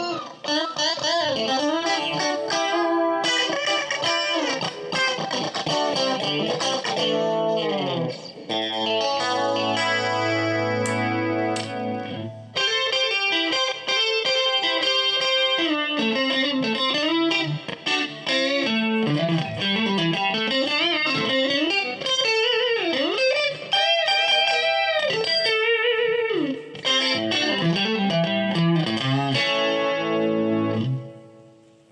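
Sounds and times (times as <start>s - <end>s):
clean electric guitar: 0.0s - 31.9s.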